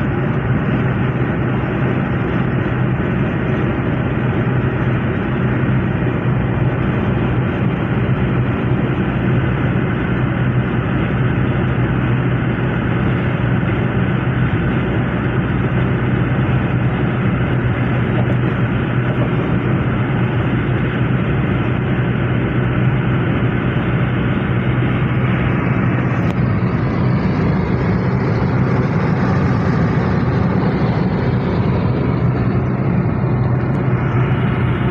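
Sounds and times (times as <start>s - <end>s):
constant low hum: 0.0s - 34.9s
pickup engine cruising: 0.0s - 34.9s
tyre road noise: 0.0s - 34.9s.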